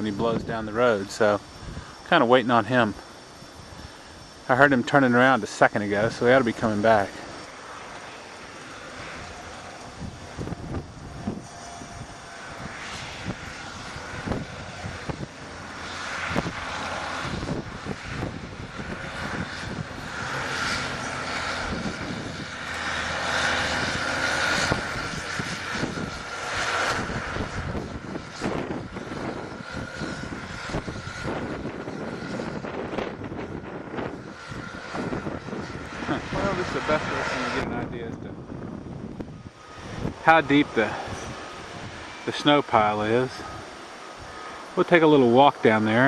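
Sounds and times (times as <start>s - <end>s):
snowblower engine droning: 0.0s - 46.0s.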